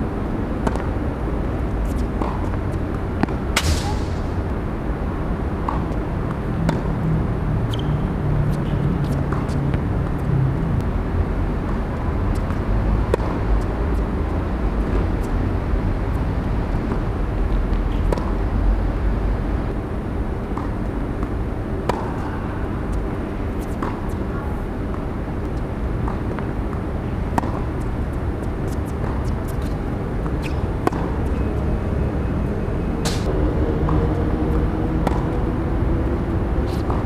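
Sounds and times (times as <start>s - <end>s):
traffic rumble: 0.0s - 37.0s.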